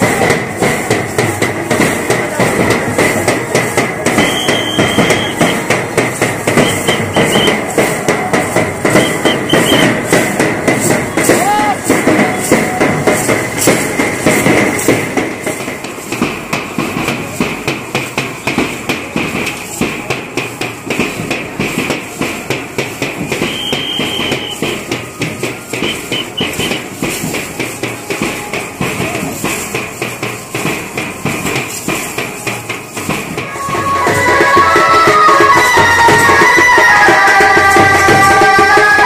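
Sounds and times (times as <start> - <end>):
drum beats: 0.0 - 39.0.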